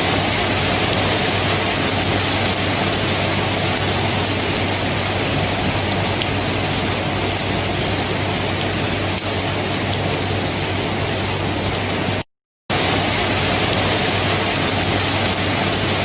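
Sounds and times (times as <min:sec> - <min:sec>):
steady rain hiss: 0:00.0 - 0:16.0
raindrop ticks: 0:00.1 - 0:10.3, 0:13.0 - 0:16.0.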